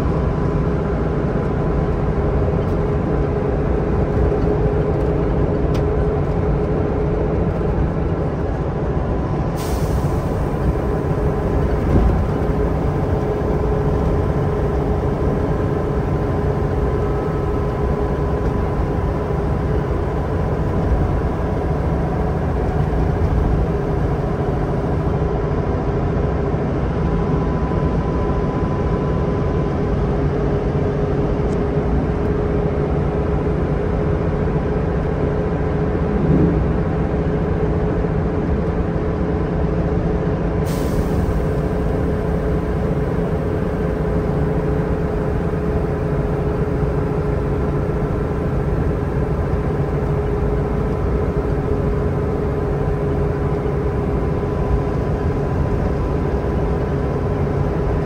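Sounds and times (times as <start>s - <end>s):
bus engine drone: 0.0s - 58.0s
constant whine: 0.0s - 58.0s
road rumble: 0.0s - 58.0s.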